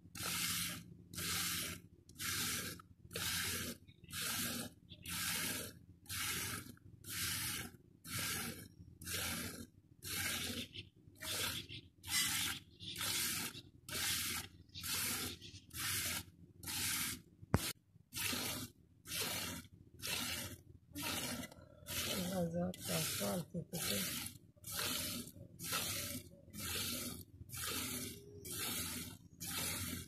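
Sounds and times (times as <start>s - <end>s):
milk squirting into steel pot: 0.2s - 10.6s, 12.2s - 30.0s.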